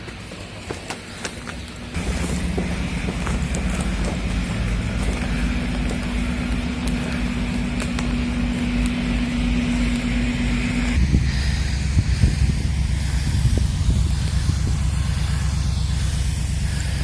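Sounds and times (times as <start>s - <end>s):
steady hum: 0.0s - 17.0s
vehicle engine rumbling: 0.0s - 17.0s.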